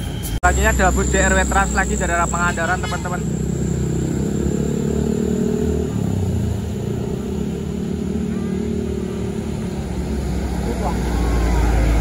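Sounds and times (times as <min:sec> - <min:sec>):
bus diesel engine passing: 0:00.0 - 0:12.0.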